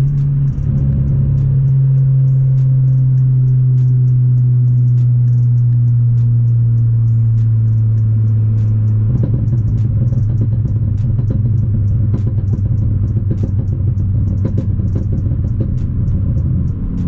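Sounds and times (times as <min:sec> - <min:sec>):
car engine drone in cabin: 0:00.0 - 0:17.0
road noise: 0:00.0 - 0:17.0.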